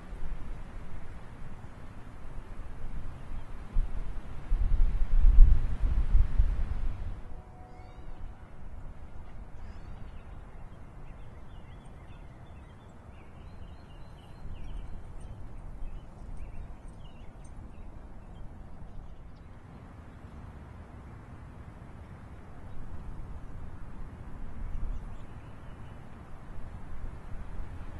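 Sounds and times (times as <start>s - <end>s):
wind rumble on microphone: 0.0s - 27.9s.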